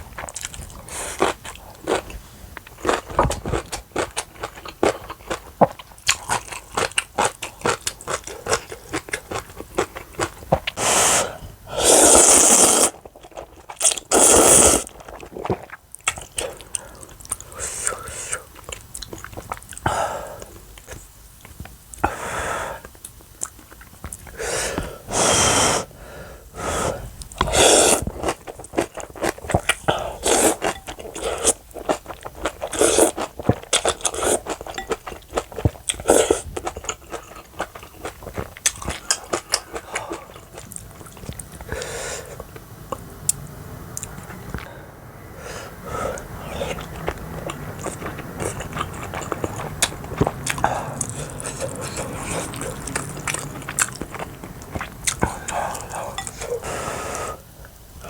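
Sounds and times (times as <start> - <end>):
chewing and crunching food: 0.0 - 10.8, 12.0 - 22.2, 22.8 - 25.1, 27.0 - 44.7, 46.1 - 57.9.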